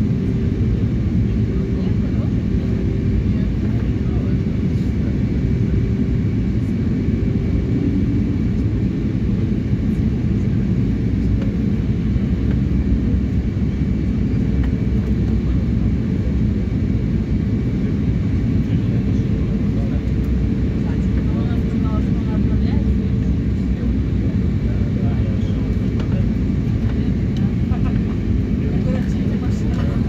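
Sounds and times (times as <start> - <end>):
jet cabin engine rush: 0.0 - 30.0.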